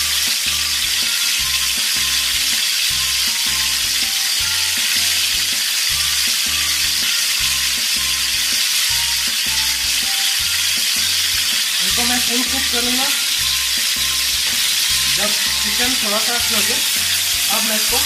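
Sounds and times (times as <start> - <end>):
chicken sizzling in hot oil: 0.0 - 18.0
music with low beat: 0.0 - 18.0.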